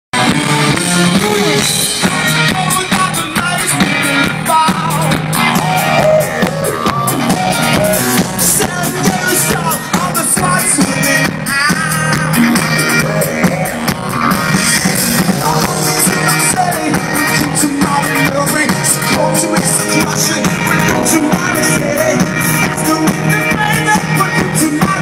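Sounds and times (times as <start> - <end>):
electric guitar: 0.2 - 25.0
live rock band: 0.2 - 25.0
steady drum beat: 0.2 - 25.0.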